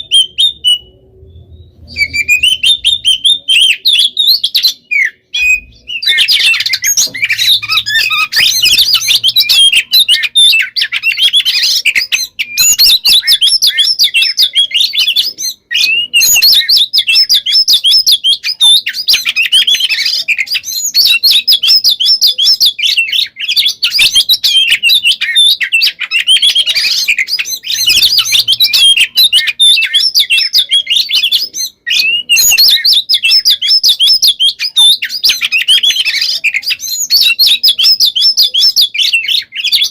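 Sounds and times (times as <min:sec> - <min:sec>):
bird singing rapid whistles: 0:00.0 - 0:39.9.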